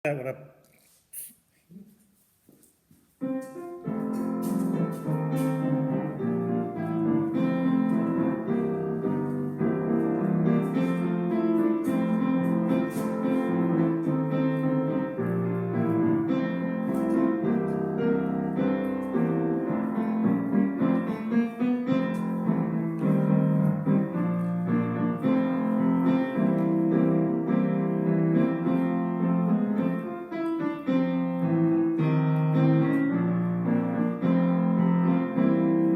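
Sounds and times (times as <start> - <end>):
piano music: 3.1 - 35.9.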